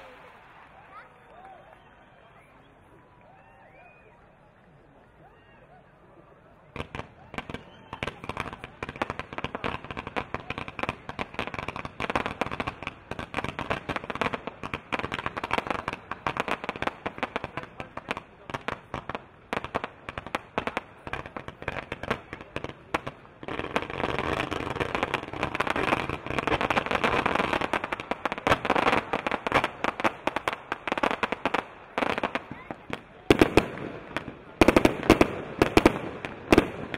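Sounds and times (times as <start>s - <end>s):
fireworks crackling and popping: 0.0s - 4.8s, 6.7s - 36.9s.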